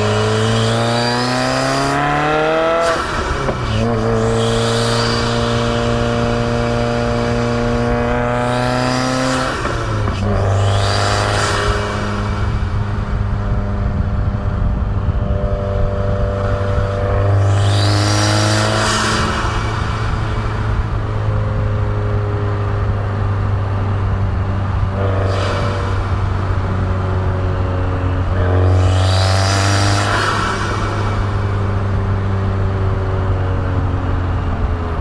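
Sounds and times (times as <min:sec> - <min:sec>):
car engine drone: 0:00.0 - 0:35.0.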